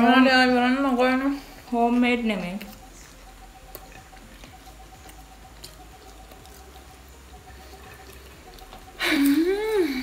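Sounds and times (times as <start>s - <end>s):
low steady hum: 0.0s - 10.0s
people chewing: 0.0s - 10.0s.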